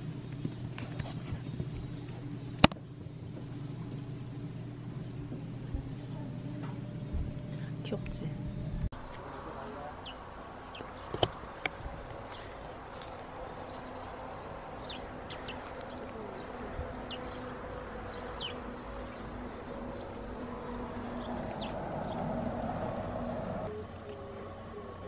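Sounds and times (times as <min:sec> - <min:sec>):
low hum: 0:00.0 - 0:25.0
small birds chirping: 0:00.0 - 0:25.0.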